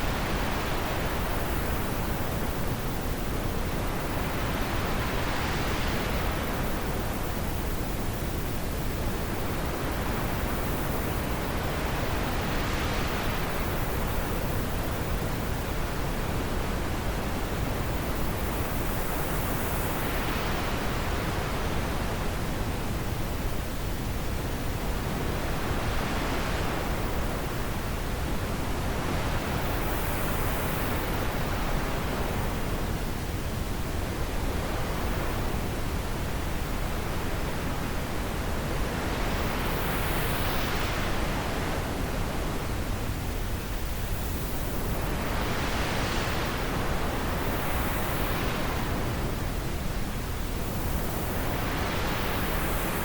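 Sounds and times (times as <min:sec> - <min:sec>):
wind blowing in gusts: 0:00.0 - 0:53.0.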